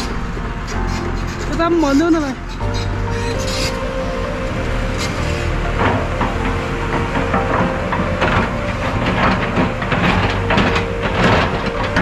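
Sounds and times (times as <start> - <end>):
rattling crunching knocks: 0.0 - 12.0
vehicle engine drone: 0.0 - 12.0.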